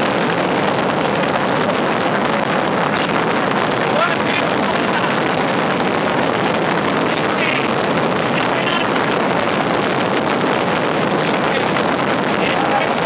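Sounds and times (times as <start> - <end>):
firework rockets exploding: 0.0 - 13.0.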